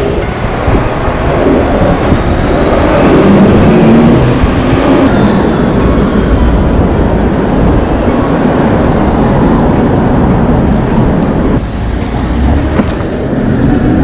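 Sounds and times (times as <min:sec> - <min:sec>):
street traffic: 0:00.0 - 0:14.0
wind rushing: 0:00.0 - 0:14.0.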